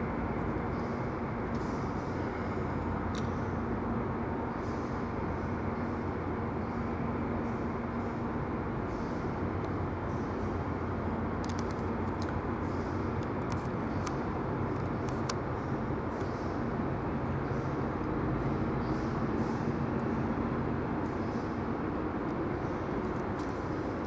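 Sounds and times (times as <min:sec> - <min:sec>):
faint hum: 0:00.0 - 0:24.0
low mechanical rumble: 0:00.0 - 0:24.0.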